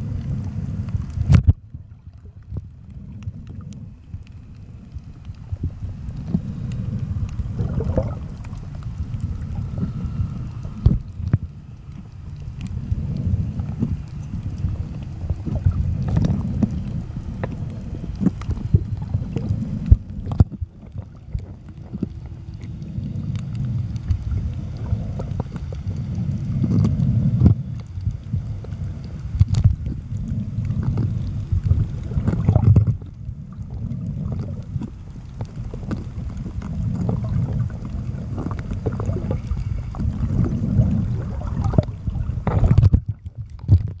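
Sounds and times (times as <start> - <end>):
underwater water rumble: 0.0 - 44.0.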